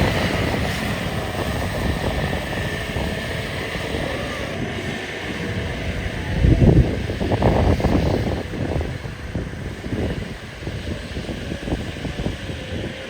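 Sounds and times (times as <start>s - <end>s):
diesel engine running: 0.0s - 13.0s
wind buffeting microphone: 0.0s - 13.0s.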